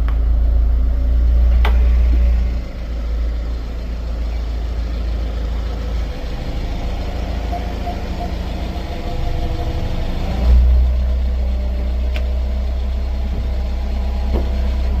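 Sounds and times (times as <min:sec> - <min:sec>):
low-speed car rumble: 0:00.0 - 0:15.0.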